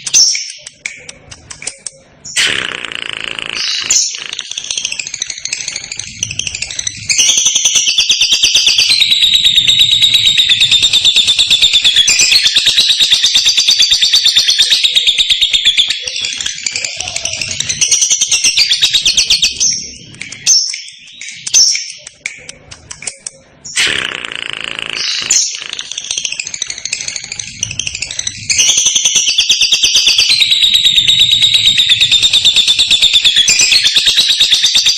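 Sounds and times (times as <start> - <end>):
bird high chirps: 0.0 - 2.6, 3.4 - 34.9
lovebird chattering trill: 0.0 - 34.9.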